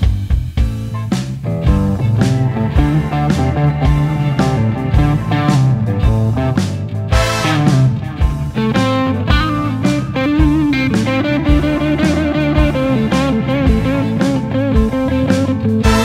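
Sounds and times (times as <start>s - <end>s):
electric guitar with bent notes: 0.0s - 16.0s
steady drum beat: 0.0s - 16.0s.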